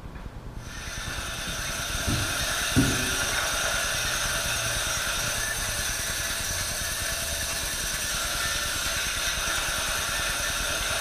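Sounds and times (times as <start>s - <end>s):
leather-measuring machine humming: 0.6s - 11.0s.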